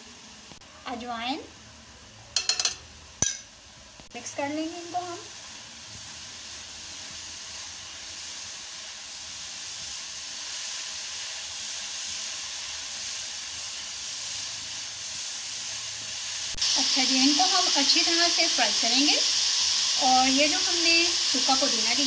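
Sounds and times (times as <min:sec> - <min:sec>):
radish sizzling in hot oil: 0:00.0 - 0:22.0.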